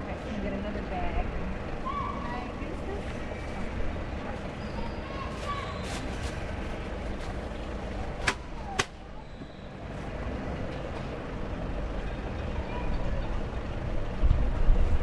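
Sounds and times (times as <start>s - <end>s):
traffic hum: 0.0s - 15.0s.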